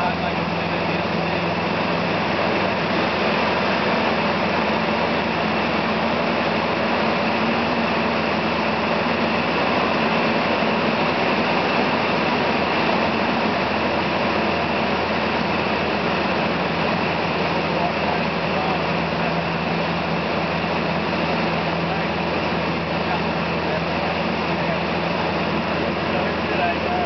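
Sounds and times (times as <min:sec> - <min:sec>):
plane engine and propeller: 0:00.0 - 0:27.0.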